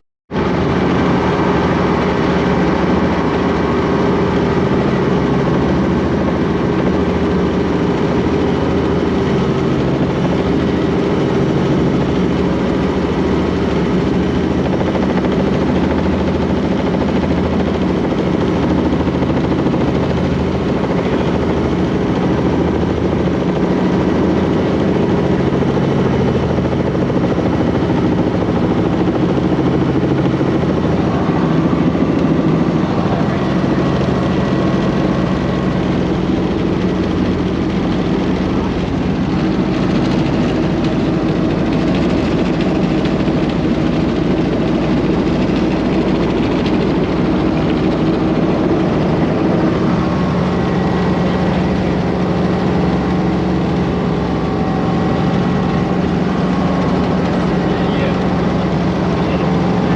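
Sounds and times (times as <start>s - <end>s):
helicopter engine and rotor drone: 0.3s - 59.9s.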